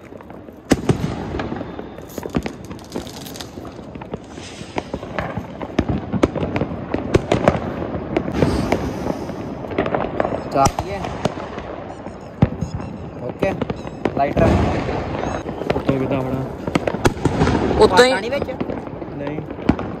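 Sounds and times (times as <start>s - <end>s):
firecrackers banging: 0.0s - 20.0s.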